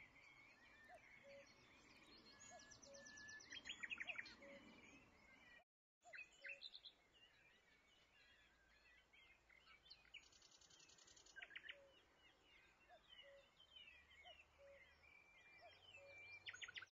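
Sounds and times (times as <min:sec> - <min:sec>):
birds chirping and whistling: 0:00.0 - 0:16.9.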